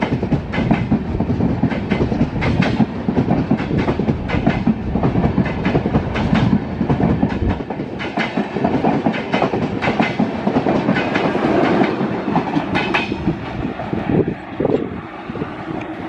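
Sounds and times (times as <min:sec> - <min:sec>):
train wheels clickety-clack: 0:00.0 - 0:14.8.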